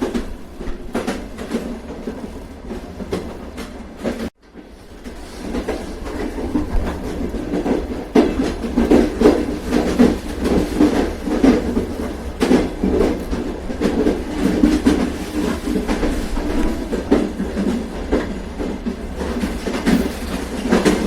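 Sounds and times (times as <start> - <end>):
train rumble: 0.0 - 21.0
wheels clicking over rail joints: 0.0 - 21.0.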